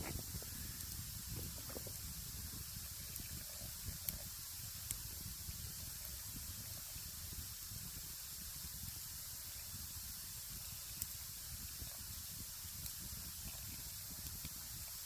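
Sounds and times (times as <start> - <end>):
campfire pop: 0.0 - 8.0, 10.1 - 14.6
sausages sizzling: 0.0 - 15.0.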